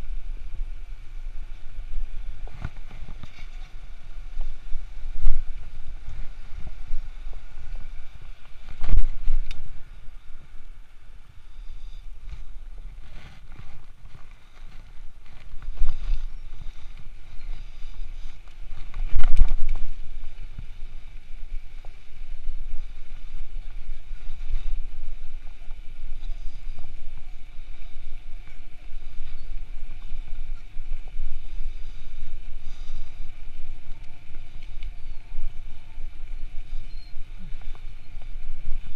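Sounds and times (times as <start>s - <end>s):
bicycle tyres rumbling: 0.0s - 38.9s
wind buffeting microphone: 0.0s - 38.9s.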